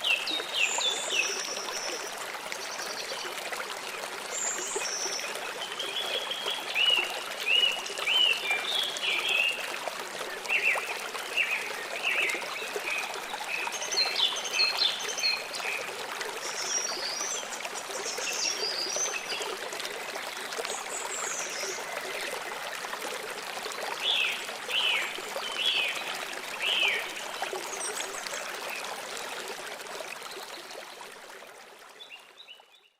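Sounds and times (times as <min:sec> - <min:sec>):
stream water flowing: 0:00.0 - 0:32.8.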